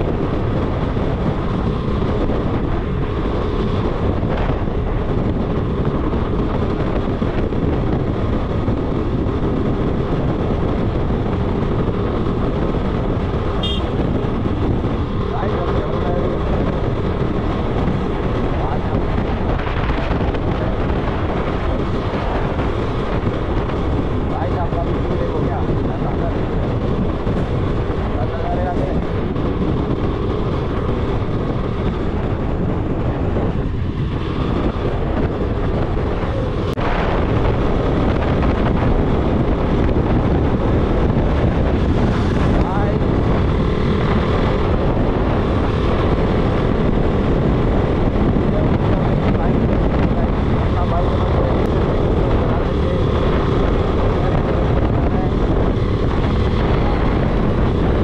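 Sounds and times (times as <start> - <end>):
motorcycle running at speed: 0.0 - 58.0
wind rushing over microphone: 0.0 - 58.0.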